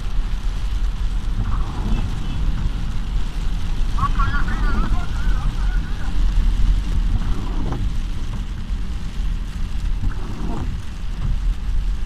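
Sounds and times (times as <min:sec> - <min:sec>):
car noise low rumble: 0:00.0 - 0:12.0
heavy rain on car: 0:00.0 - 0:12.0.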